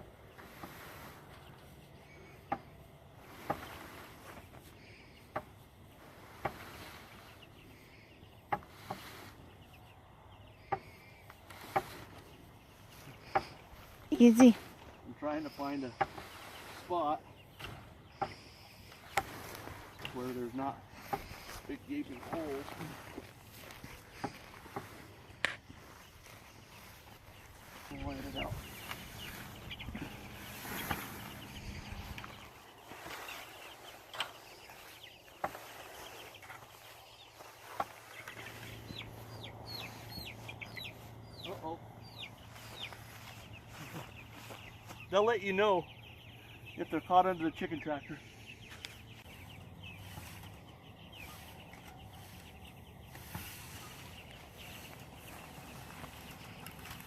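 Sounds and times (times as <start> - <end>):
rustling: 0.0 - 9.9, 10.7 - 15.0, 15.8 - 45.2, 48.7 - 57.0
chickens peeping: 0.0 - 57.0.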